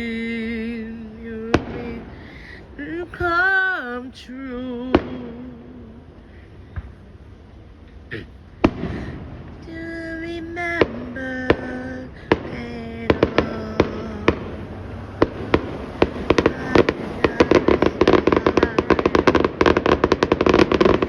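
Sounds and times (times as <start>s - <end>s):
fireworks bangs: 0.0s - 3.6s, 4.8s - 5.7s, 8.6s - 21.0s.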